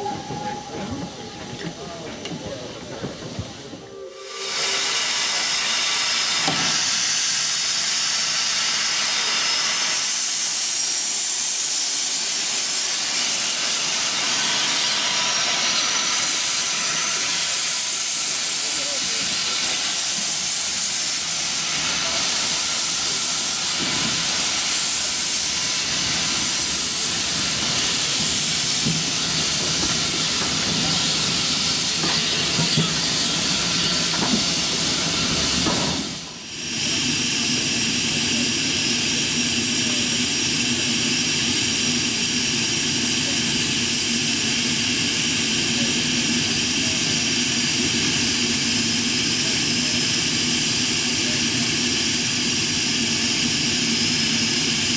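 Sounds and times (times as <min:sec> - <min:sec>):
steam hissing from locomotive: 0:00.0 - 0:54.9.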